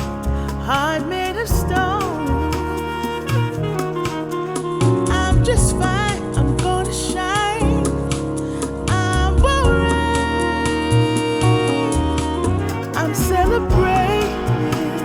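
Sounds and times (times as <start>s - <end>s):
music with deep bass: 0.0s - 15.0s
wavering lead melody: 0.0s - 15.0s.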